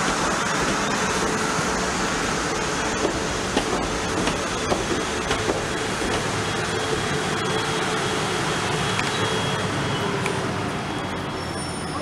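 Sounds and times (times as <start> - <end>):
faint train whine: 0.0 - 12.0
train wheels rumbling on rails: 0.0 - 12.0.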